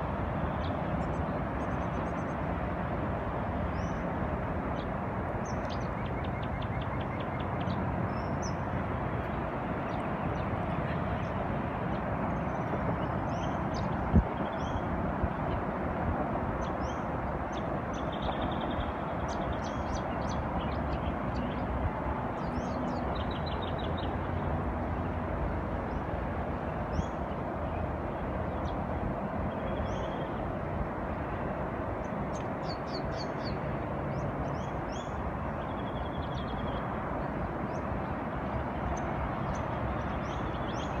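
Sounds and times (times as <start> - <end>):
distant road traffic: 0.0 - 41.0
wind: 0.0 - 41.0.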